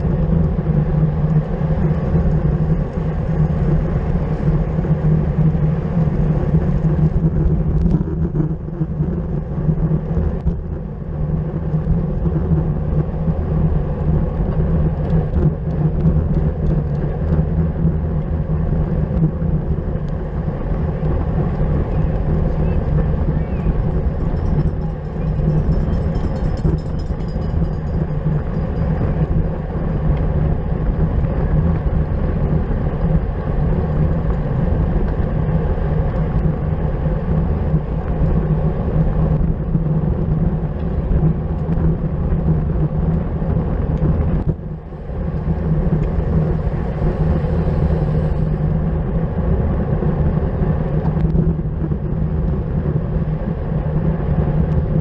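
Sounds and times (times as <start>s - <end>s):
bicycle tyre noise: 0.0s - 55.0s.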